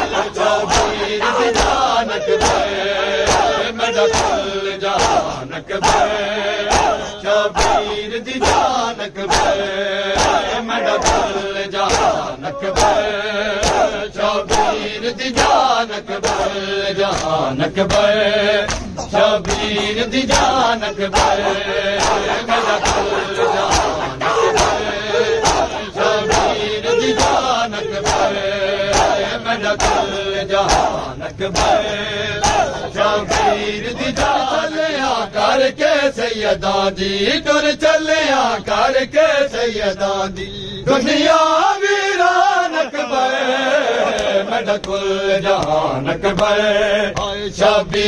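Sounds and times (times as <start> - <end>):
rhythmic hand slaps: 0.0 - 36.2, 44.1 - 48.0
men chanting in unison: 0.0 - 48.0.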